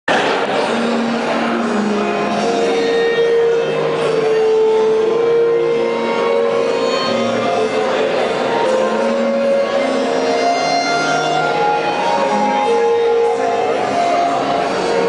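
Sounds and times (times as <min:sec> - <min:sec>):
instrumental music: 0:00.4 - 0:15.0.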